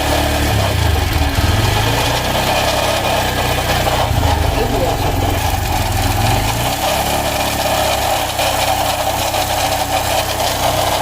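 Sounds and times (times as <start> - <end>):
motorcycle engine running roughly: 0.0 - 11.0.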